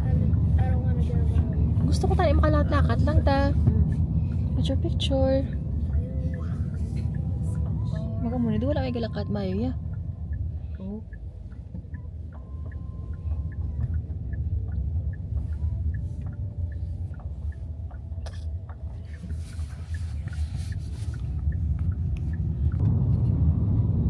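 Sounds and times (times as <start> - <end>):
faint ticking: 0.0 - 22.8
low rumble: 0.0 - 24.0.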